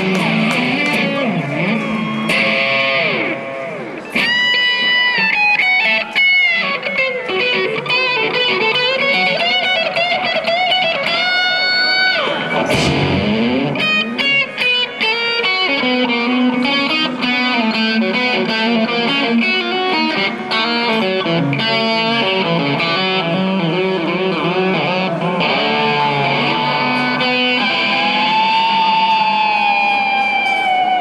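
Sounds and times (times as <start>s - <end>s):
electric guitar solo: 0.0s - 31.0s.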